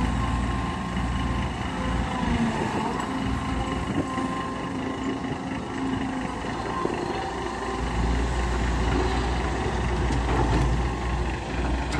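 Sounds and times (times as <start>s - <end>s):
diesel engine under load: 0.0s - 11.9s.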